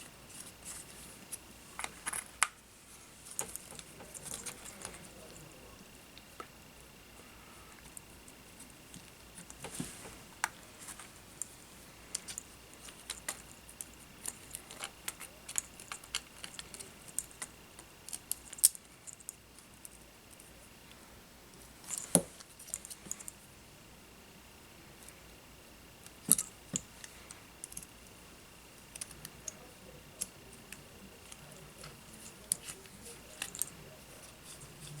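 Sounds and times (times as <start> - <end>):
faint high whine: 0.0 - 35.0.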